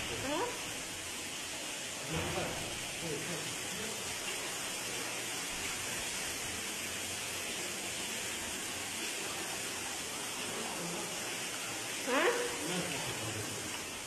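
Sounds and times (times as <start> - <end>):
water pouring and splashing: 0.0 - 14.0.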